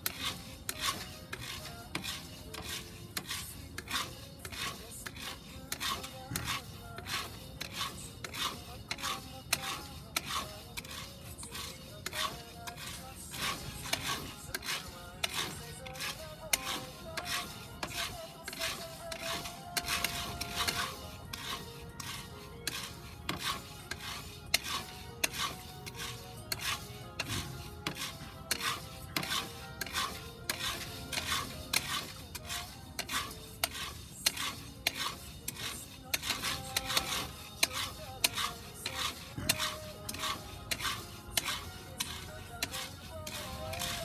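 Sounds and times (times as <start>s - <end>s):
coffee beans scraping in iron pot: 0.0s - 44.0s.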